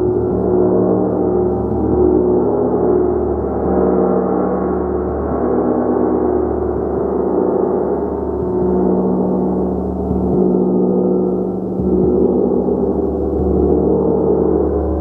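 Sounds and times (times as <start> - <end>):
large gong shimmering: 0.0 - 15.0.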